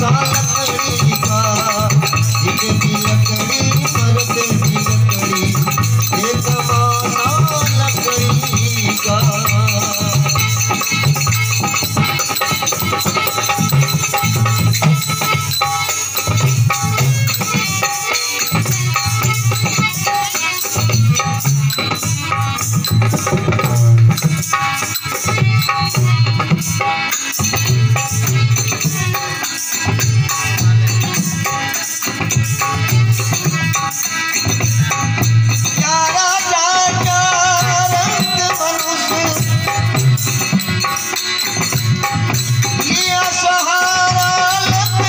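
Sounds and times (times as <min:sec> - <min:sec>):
dholak drum rhythm: 0:00.0 - 0:45.0
harmonium notes: 0:00.0 - 0:45.0.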